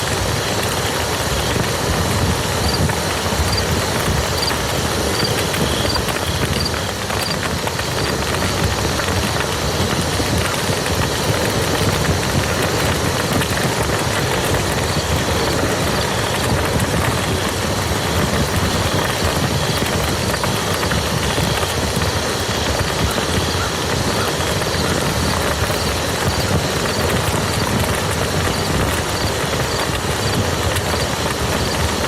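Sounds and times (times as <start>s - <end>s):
rain falling on mud: 0.0s - 32.0s.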